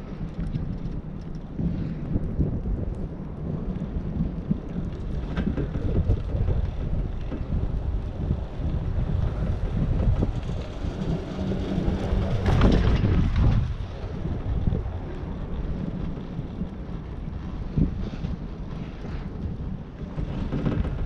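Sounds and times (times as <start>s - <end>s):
chairlift rumbling: 0.0s - 21.0s
wind on microphone: 0.0s - 21.0s.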